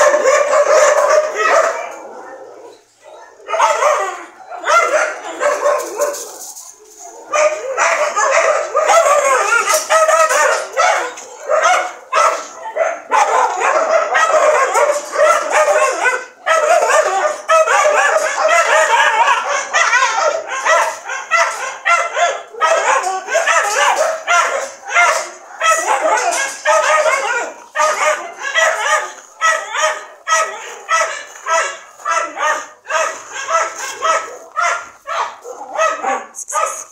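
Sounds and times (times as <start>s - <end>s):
dogs barking and yipping: 0.0s - 36.9s.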